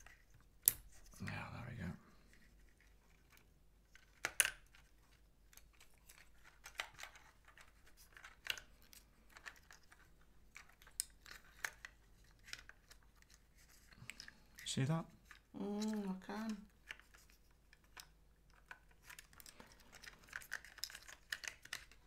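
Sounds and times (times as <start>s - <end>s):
plastic parts clicking: 2.3s - 22.0s.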